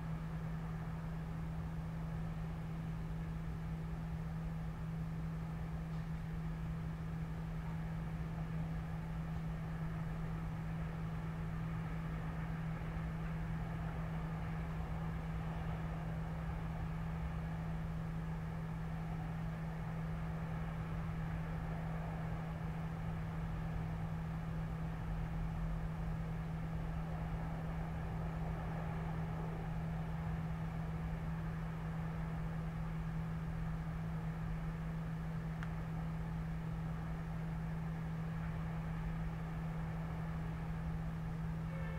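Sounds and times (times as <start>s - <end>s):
distant city traffic: 0.0s - 41.9s
low droning hum: 0.0s - 41.9s.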